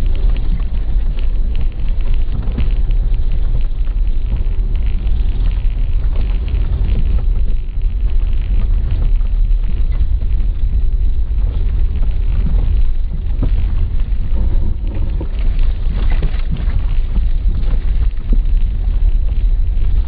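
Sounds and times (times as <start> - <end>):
car engine and road rumble: 0.0 - 20.0
car rattling over bumps: 0.0 - 20.0.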